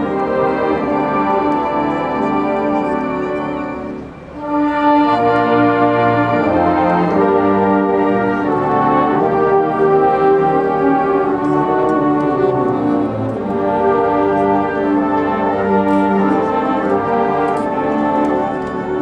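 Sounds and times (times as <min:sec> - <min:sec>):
brass band playing: 0:00.0 - 0:19.0.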